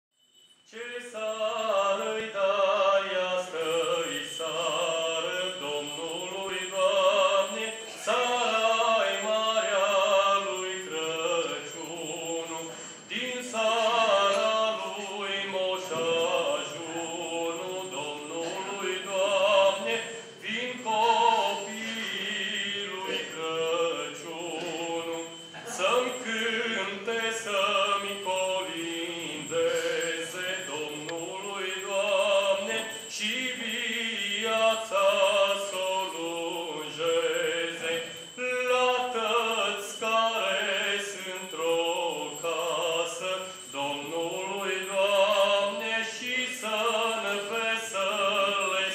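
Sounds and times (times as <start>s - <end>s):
man singing into a microphone: 0.7s - 48.9s.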